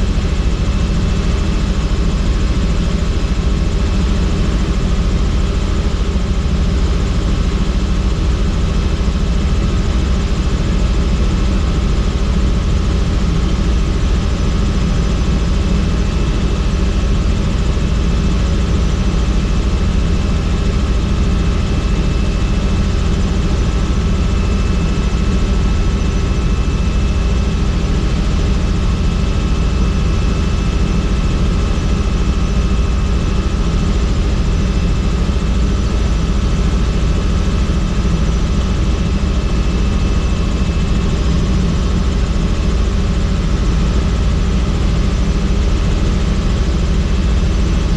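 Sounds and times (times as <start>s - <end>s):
helicopter rotor and engine: 0.0s - 47.9s.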